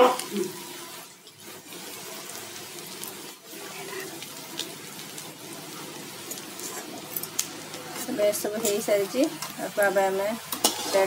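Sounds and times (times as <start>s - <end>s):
oil sizzling with pops: 0.0s - 11.0s.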